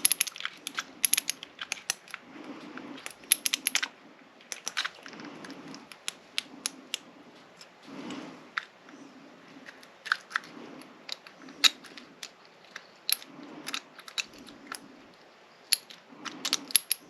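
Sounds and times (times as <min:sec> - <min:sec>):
soft handling rustle: 0:00.0 - 0:17.0.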